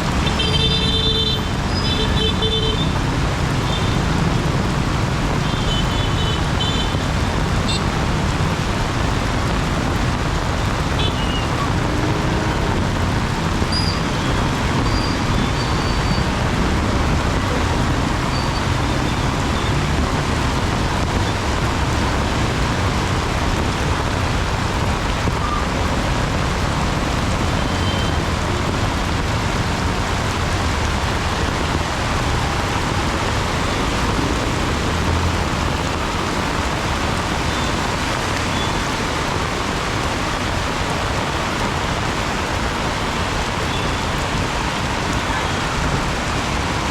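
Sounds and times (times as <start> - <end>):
heavy rain pouring: 0.0 - 46.9
road traffic rumble: 0.0 - 46.9.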